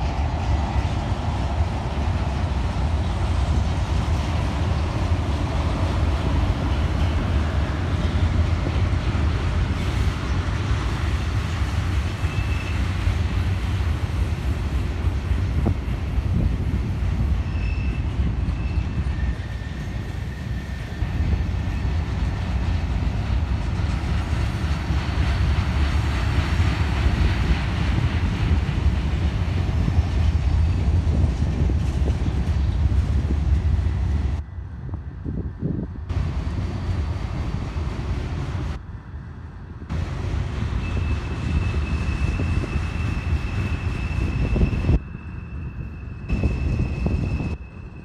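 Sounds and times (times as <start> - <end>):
train wheels rumbling on track: 0.0 - 48.0
wind noise on microphone: 0.0 - 48.0.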